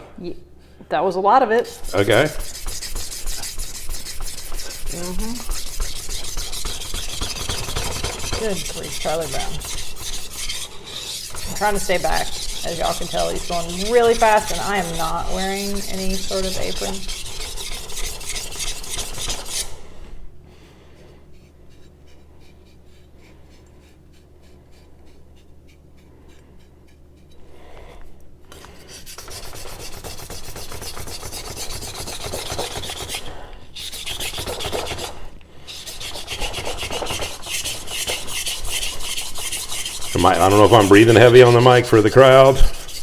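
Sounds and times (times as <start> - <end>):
knife scraping on whetstone: 1.6 - 43.0.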